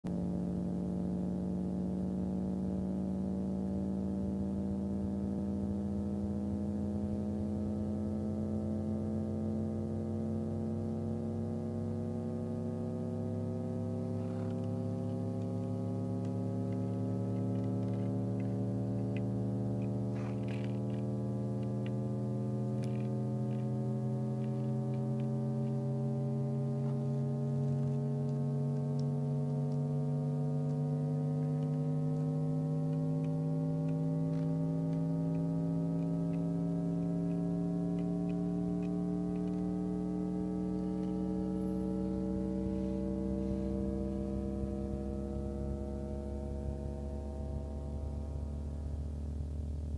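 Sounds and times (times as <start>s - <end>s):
woofer rising test tone: 0.1s - 49.9s.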